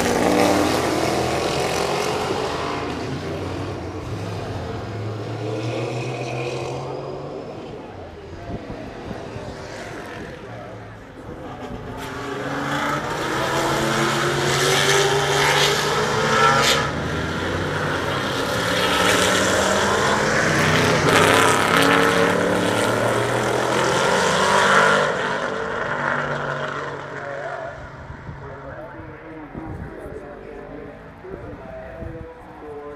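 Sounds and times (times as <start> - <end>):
race car engines at high revs: 0.0 - 31.6.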